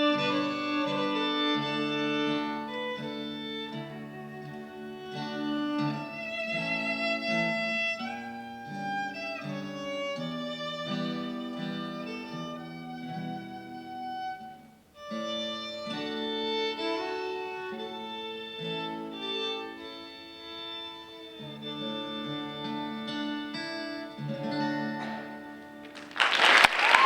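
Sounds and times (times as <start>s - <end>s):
fiddle melody: 0.0s - 26.2s
acoustic guitar accompaniment: 0.0s - 27.0s.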